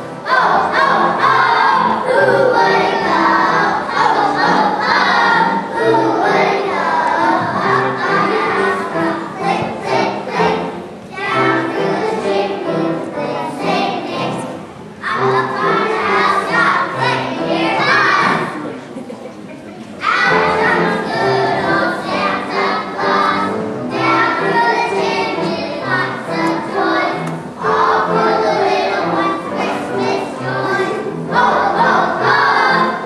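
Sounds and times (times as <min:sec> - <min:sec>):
children's choir singing: 0:00.0 - 0:18.9, 0:19.9 - 0:33.0.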